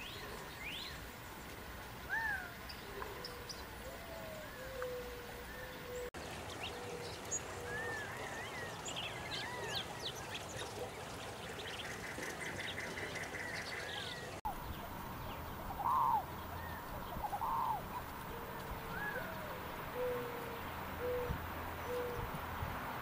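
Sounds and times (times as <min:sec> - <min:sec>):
loud nasal bird calls: 0:02.1 - 0:22.4.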